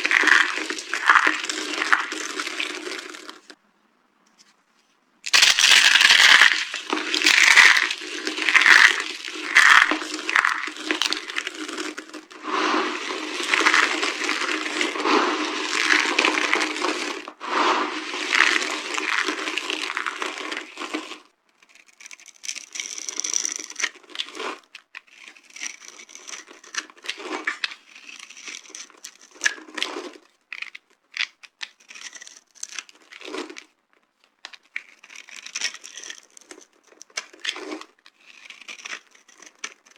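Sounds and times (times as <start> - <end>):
dry soap crunching by hand: 0.0 - 3.6, 5.2 - 39.9.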